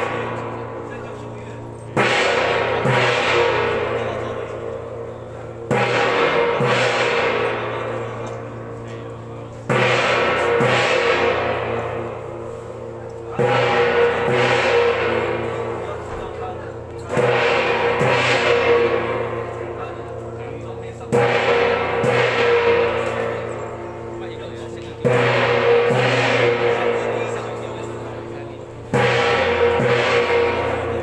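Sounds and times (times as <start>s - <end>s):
large gong ringing: 0.0s - 31.0s.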